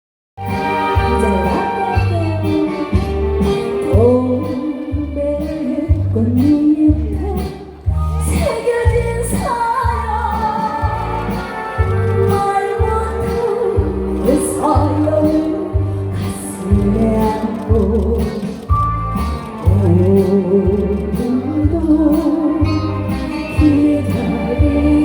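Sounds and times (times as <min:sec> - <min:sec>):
woman singing: 0:00.6 - 0:18.7, 0:19.6 - 0:25.0.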